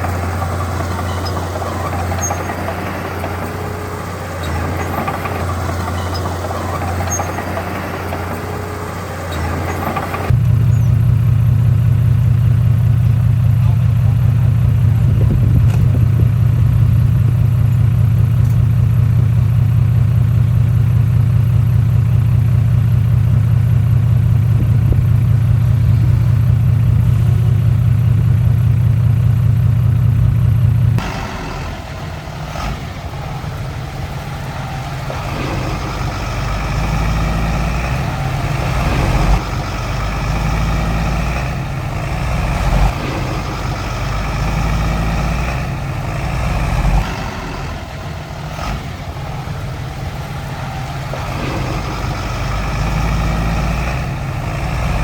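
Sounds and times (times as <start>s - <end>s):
diesel engine humming: 0.0s - 55.0s
rough uneven engine working: 0.0s - 55.0s.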